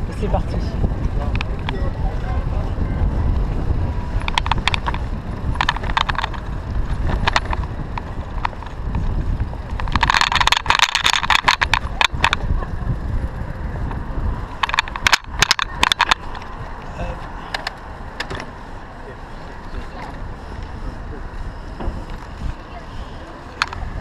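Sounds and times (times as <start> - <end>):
bicycle rattling: 0.0 - 24.0
wind on microphone: 0.0 - 24.0.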